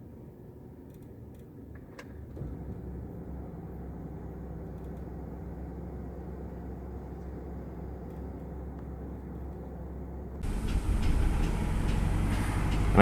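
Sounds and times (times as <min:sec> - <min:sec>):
car engine idling rough: 0:02.4 - 0:13.0.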